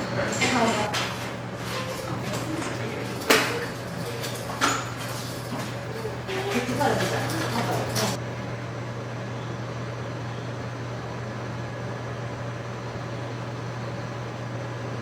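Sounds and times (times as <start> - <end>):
ventilation system hum and hiss: 0.0 - 15.0.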